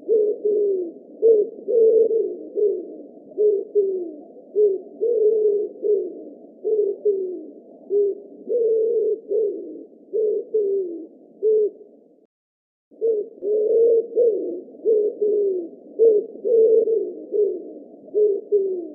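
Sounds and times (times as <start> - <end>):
pigeons cooing: 0.0 - 11.9, 13.0 - 18.9.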